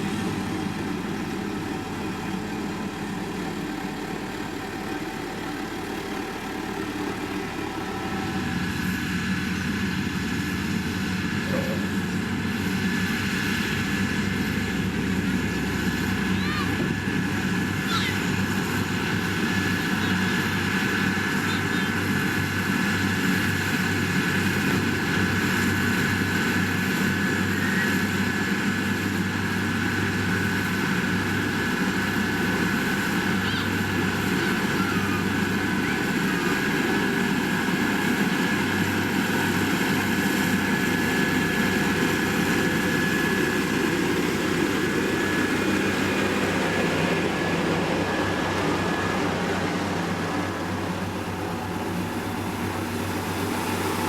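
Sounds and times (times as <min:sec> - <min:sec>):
constant machine whine: 0:00.0 - 0:54.0
diesel machinery engine hum: 0:00.0 - 0:54.0.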